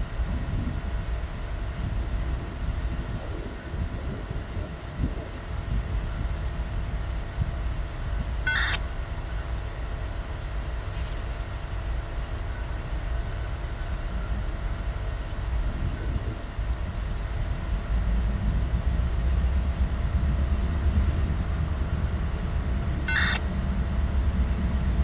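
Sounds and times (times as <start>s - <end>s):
diesel engines idling: 0.0s - 25.0s.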